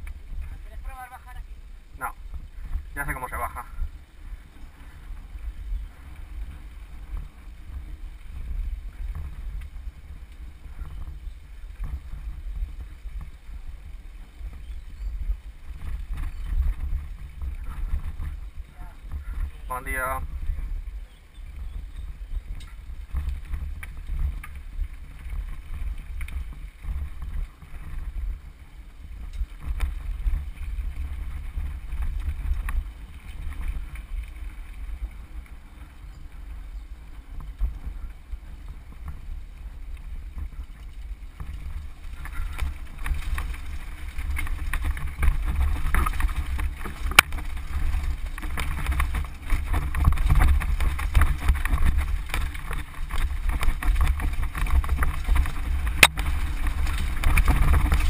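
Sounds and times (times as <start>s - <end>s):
bike tyres and frame rattling: 0.0s - 58.0s
wind rumbling on microphone: 0.0s - 58.0s.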